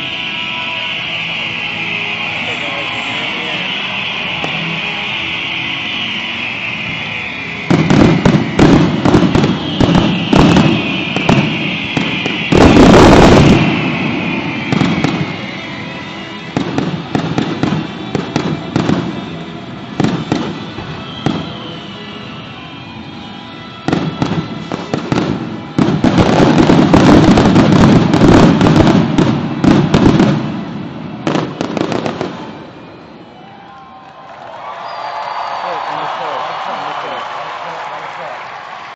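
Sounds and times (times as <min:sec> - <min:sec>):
fireworks bangs and crackling: 0:00.0 - 0:33.1.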